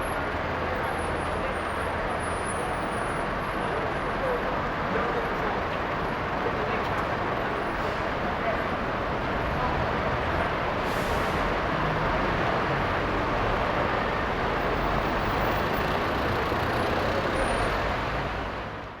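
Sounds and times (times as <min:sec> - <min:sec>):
bus engines and traffic: 0:00.0 - 0:19.0.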